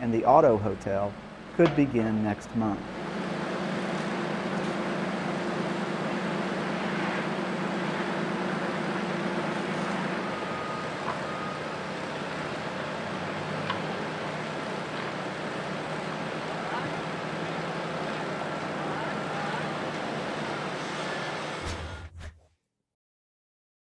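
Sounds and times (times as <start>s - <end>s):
engine humming: 0.0s - 22.1s
outdoor noise: 0.0s - 22.1s.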